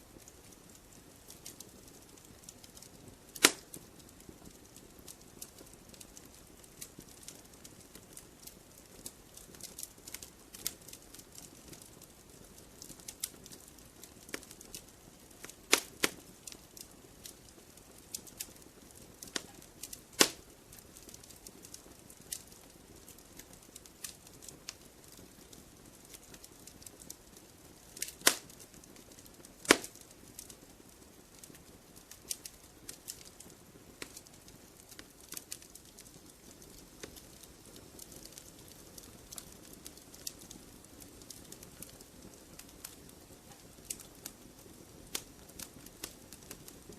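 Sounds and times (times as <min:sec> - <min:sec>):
campfire crackling and popping: 0:00.0 - 0:46.9
low steady hiss: 0:00.0 - 0:46.9.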